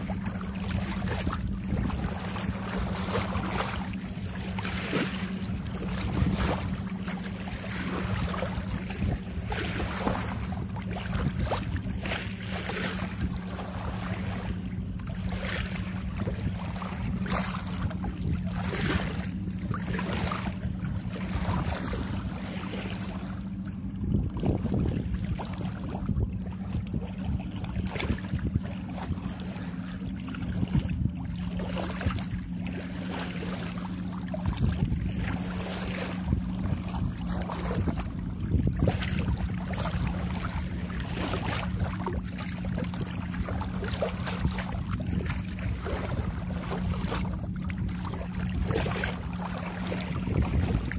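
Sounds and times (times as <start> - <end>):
steady low hum: 0.0 - 50.9
water splashing along hull: 0.0 - 50.9.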